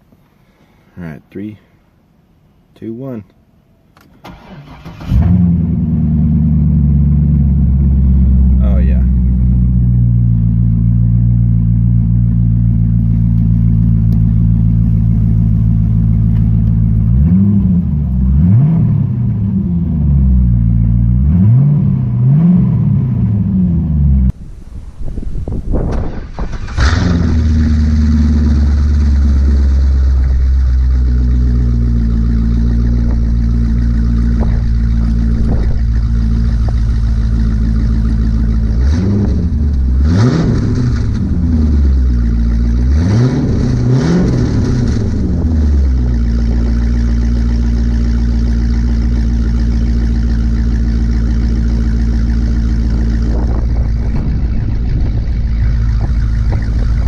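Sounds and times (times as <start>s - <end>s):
car engine idling and revving: 4.0s - 24.7s, 25.4s - 57.0s.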